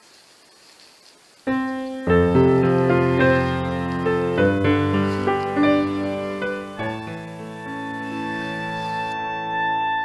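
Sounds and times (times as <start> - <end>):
keyboard chords: 1.5 - 10.0.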